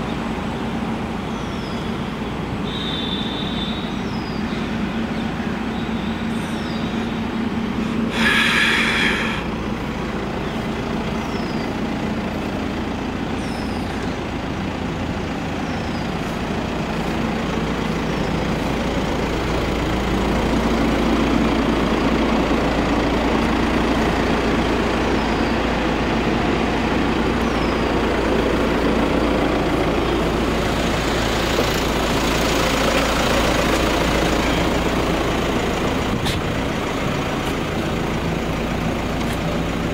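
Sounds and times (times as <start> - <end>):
diesel van engine idling: 0.0 - 39.9.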